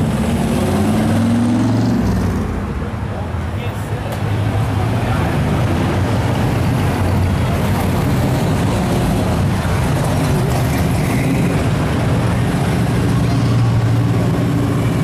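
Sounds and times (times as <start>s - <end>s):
car engines low rumble: 0.0s - 15.0s.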